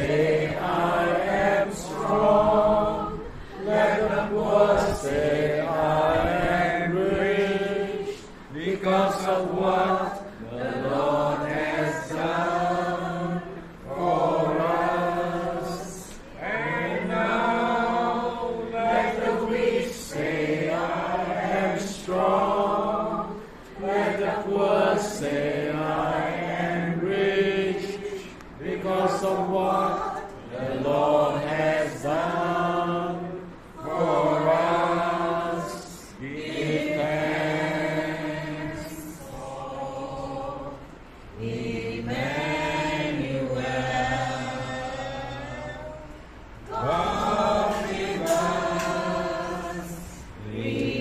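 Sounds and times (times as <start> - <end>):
group singing: 0.0 - 51.0.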